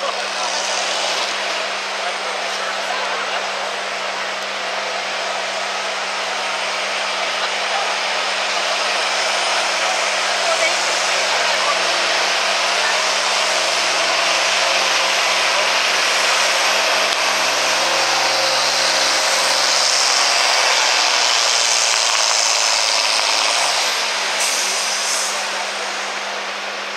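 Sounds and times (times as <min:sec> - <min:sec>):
tractor engine under heavy load: 0:00.0 - 0:26.9.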